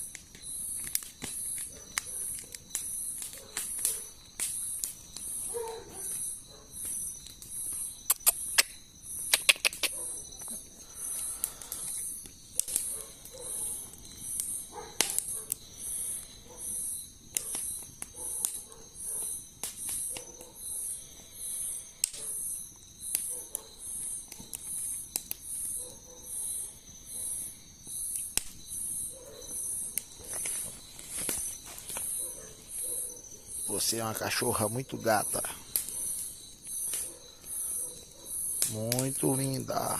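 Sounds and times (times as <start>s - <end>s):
campfire crackling and popping: 0.0s - 39.9s
night insects chirping: 0.0s - 39.9s.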